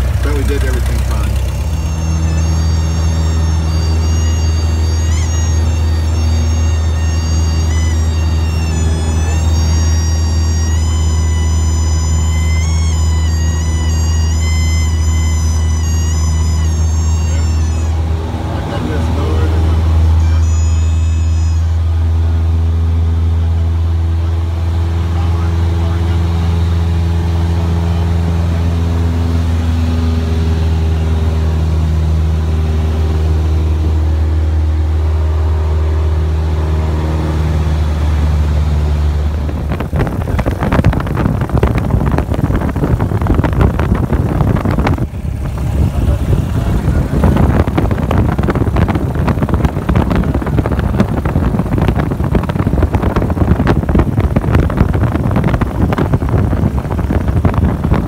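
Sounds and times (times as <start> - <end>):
aircraft piston engine humming: 0.0 - 58.0.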